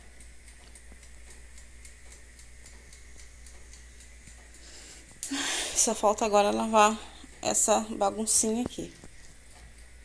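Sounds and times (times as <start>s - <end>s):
mechanical timer ticking: 0.0s - 10.0s.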